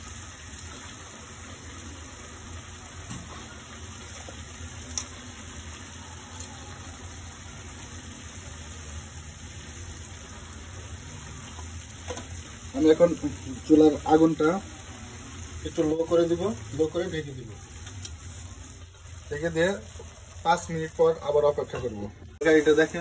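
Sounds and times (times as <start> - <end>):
curry simmering low hum: 0.0 - 23.0.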